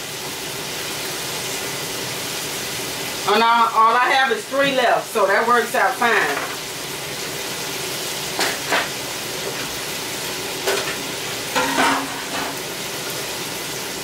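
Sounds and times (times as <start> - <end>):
food frying in hot oil: 0.0 - 14.0.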